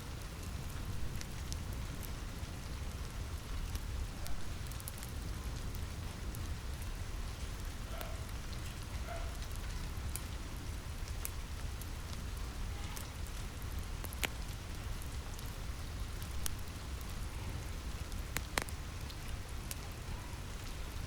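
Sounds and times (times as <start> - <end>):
rain falling on a roof: 0.0 - 21.0
wood fire crackling: 0.0 - 21.0.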